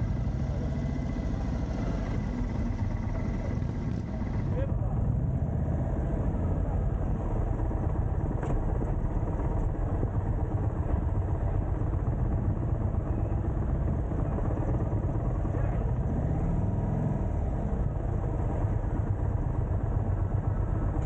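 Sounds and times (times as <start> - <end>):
road noise: 0.0 - 12.4, 14.8 - 21.0
motorcycle engine rumble: 0.0 - 21.0.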